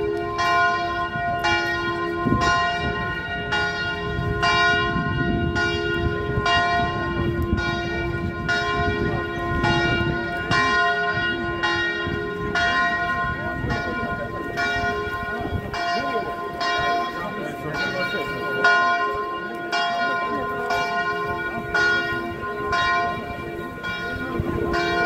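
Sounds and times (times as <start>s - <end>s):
church bell tolling: 0.0s - 25.0s
rumble of crowd walking: 0.0s - 25.0s.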